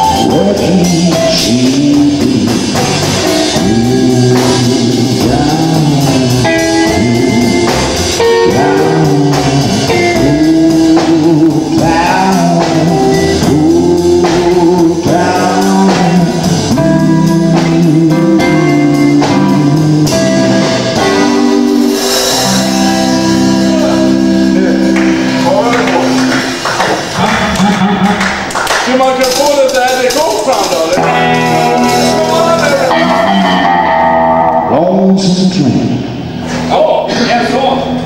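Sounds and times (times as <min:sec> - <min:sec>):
electric guitar bending notes: 0:00.0 - 0:28.6, 0:29.2 - 0:38.0
drum kit beat: 0:00.0 - 0:38.0
electric bass: 0:00.0 - 0:38.0.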